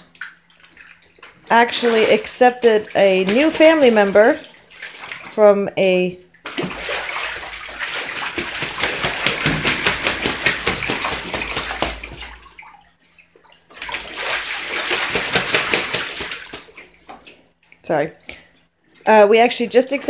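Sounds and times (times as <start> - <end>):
goose splashing in water: 0.1 - 5.4, 6.4 - 17.5.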